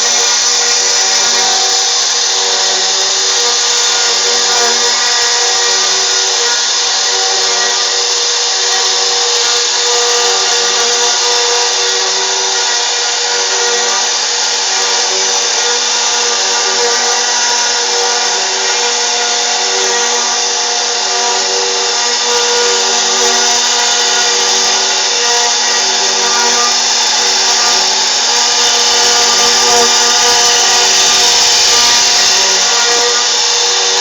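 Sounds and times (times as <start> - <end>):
router spindle whining while carving: 0.0 - 34.0.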